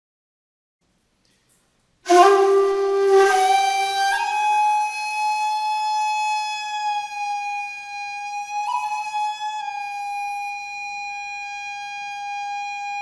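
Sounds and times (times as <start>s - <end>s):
breathy bamboo flute: 2.1s - 13.0s.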